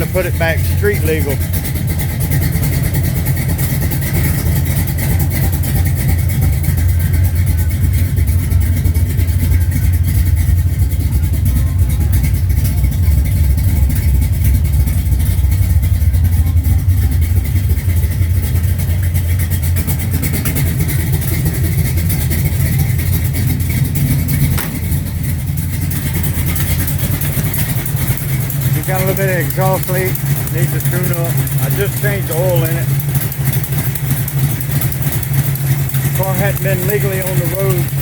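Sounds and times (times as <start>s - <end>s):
car engine idling loud and choppy: 0.0s - 38.0s.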